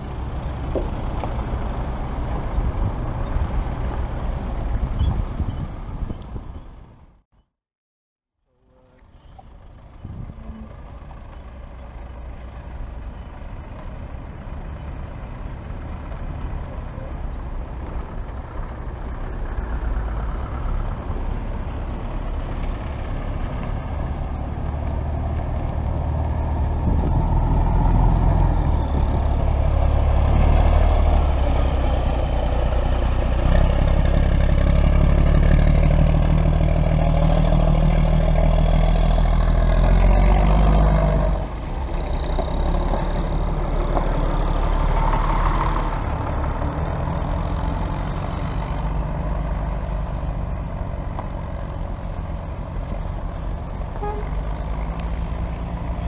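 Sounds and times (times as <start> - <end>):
bus diesel engine rumbling: 0.0 - 7.2, 8.5 - 56.0.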